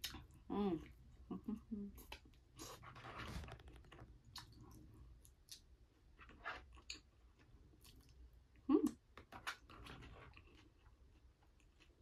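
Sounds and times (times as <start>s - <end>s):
faint chewing: 1.8s - 12.0s.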